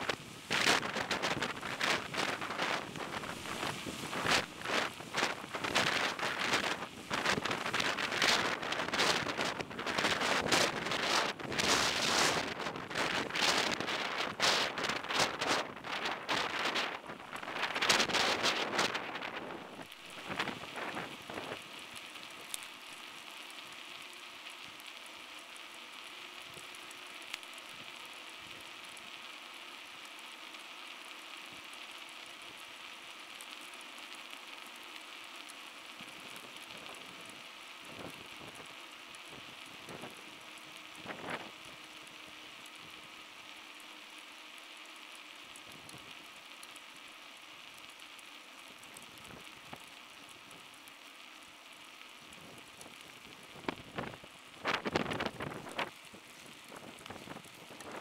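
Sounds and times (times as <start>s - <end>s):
bicycle tyres hissing on asphalt: 0.0s - 58.0s.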